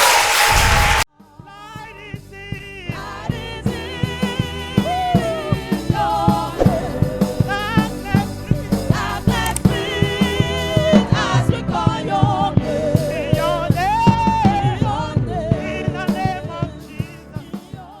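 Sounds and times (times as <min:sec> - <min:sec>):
gospel singing voices: 0:00.0 - 0:18.0
steady drum beat: 0:00.0 - 0:18.0.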